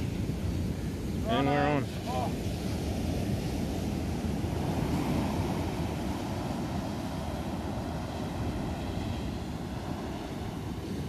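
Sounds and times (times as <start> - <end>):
beach surf: 0.0 - 11.0
wind buffeting microphone: 0.0 - 11.0.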